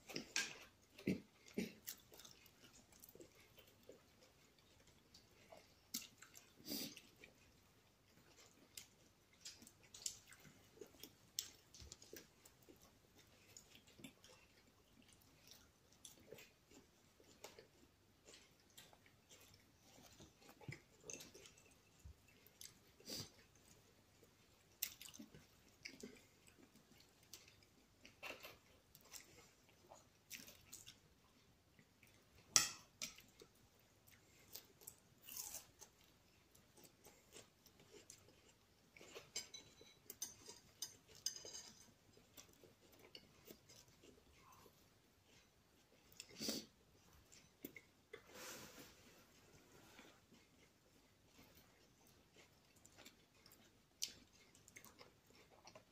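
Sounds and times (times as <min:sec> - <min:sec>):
person chewing: 0:00.0 - 0:55.9.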